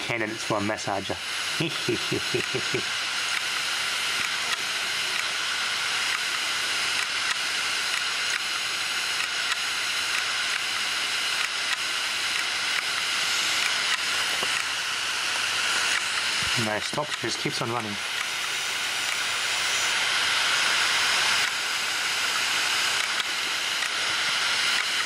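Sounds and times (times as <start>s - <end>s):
hard drive platter hissing: 0.0s - 25.0s.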